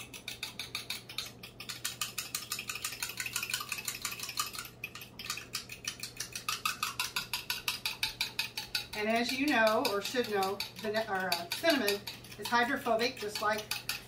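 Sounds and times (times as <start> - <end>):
fork beating batter in glass: 0.0 - 14.0.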